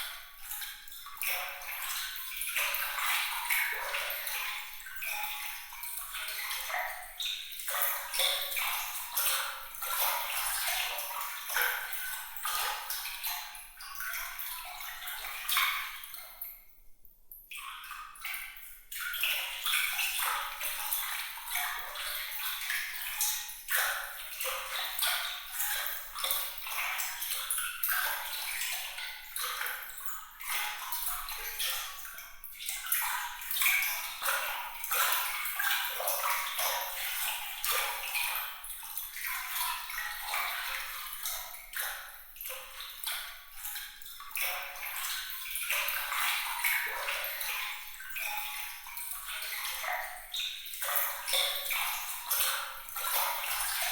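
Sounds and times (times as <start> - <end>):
water trickling and splashing: 0.0 - 16.8, 17.4 - 53.9.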